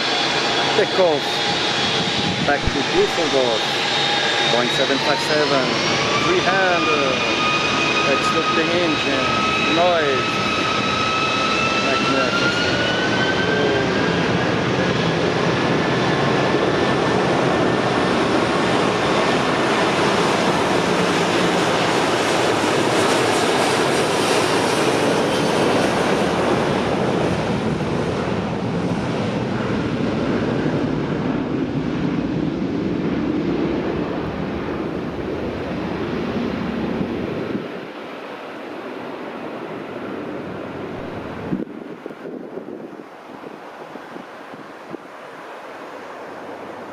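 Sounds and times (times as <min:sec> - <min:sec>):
faint high jet whine: 0:00.0 - 0:46.9
jet engines roaring at takeoff: 0:00.0 - 0:46.9.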